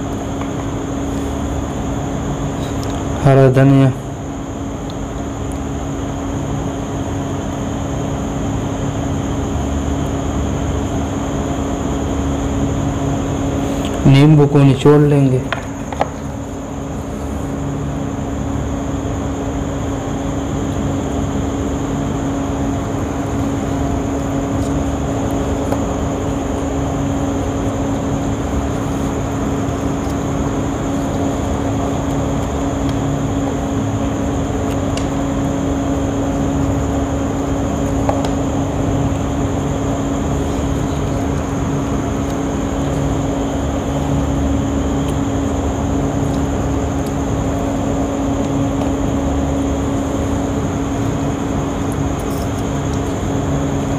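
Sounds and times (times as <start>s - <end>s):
faint high whine: 0.0s - 53.9s.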